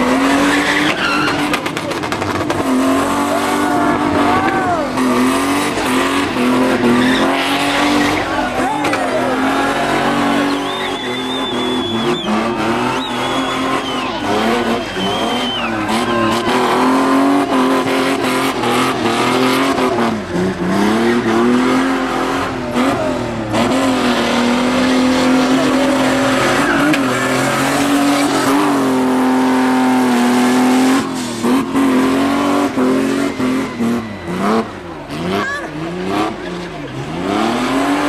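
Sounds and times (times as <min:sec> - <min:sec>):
car engine at high revs: 0:00.0 - 0:38.0
tyres spinning and squealing: 0:00.0 - 0:38.0.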